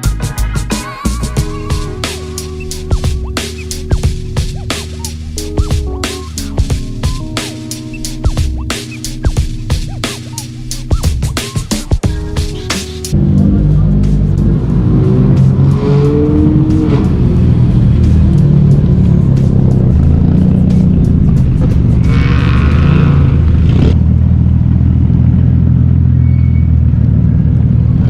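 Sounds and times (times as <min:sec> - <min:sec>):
car engine revving: 0:01.4 - 0:26.3.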